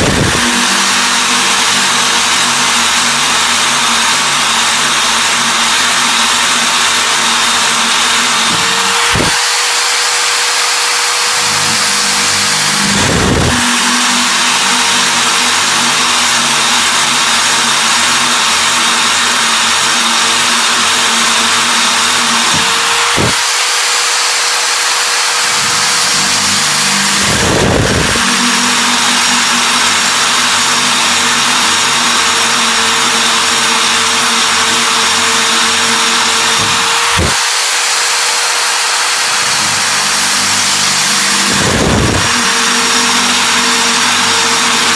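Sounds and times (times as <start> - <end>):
power drill grinding: 0.0 - 44.9.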